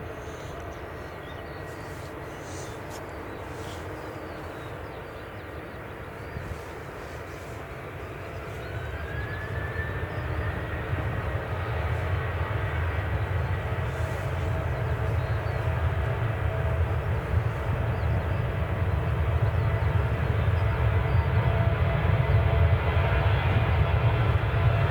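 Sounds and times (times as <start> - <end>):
jet engines rumbling and whining: 0.0 - 24.9.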